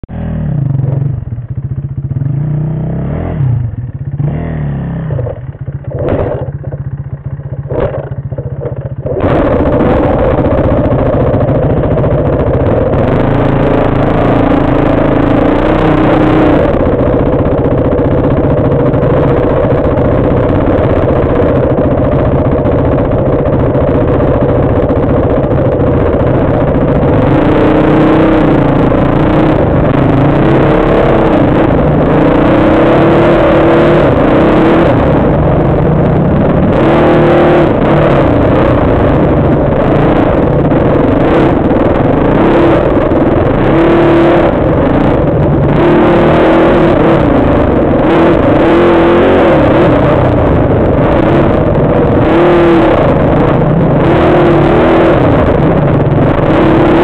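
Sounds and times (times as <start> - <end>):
dirt bike engine revving: 2.2 - 57.0
loud steady rushing noise: 9.0 - 57.0.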